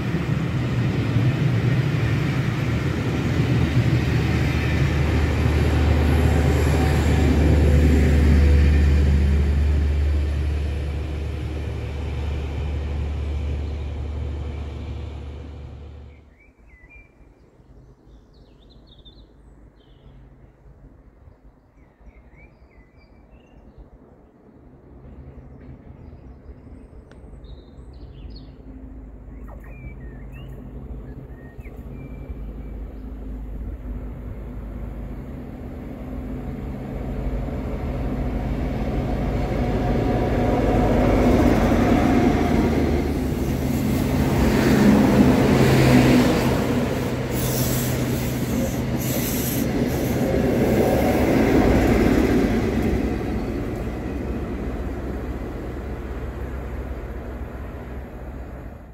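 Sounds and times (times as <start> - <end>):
diesel train passing: 0.0 - 16.9, 23.6 - 58.9.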